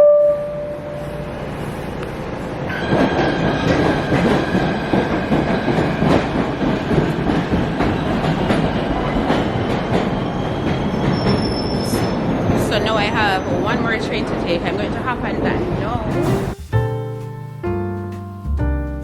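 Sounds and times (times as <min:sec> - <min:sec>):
subway train rumble: 0:00.0 - 0:17.8.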